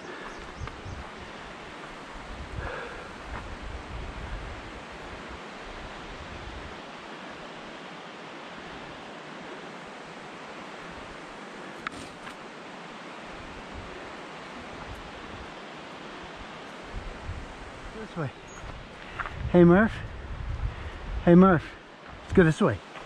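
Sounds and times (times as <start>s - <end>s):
creek water rushing: 0.0s - 19.4s.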